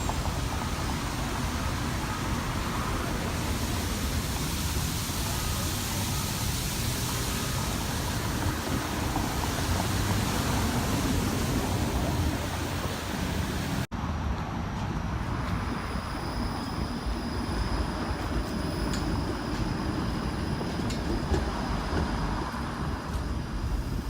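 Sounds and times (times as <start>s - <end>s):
rushing outdoor background noise: 0.0s - 24.0s.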